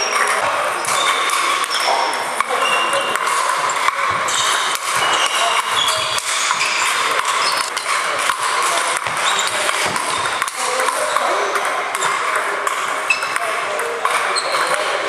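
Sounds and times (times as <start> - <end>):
distant ball clicks: 0.0 - 14.9
hall background noise: 0.0 - 15.0.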